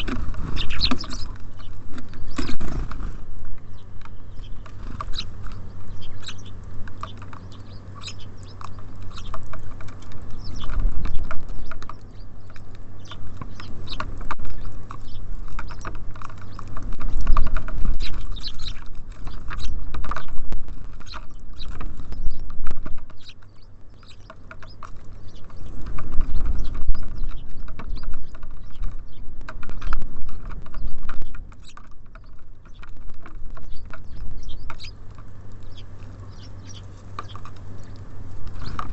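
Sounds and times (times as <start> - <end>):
birds pecking and cracking seeds: 0.0 - 38.9
low rumbles: 0.0 - 38.9
steady low hum: 0.0 - 38.9.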